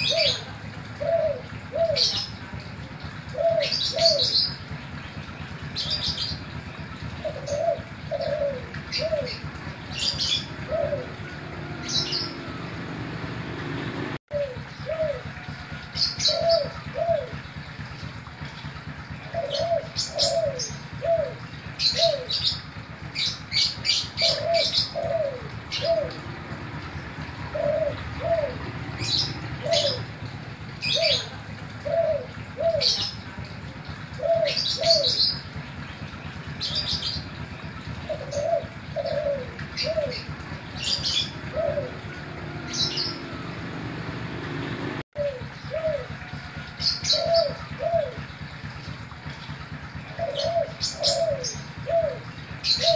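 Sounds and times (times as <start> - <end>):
dove cooing: 0.0 - 4.9, 5.7 - 52.9
small birds chirping: 0.0 - 52.9.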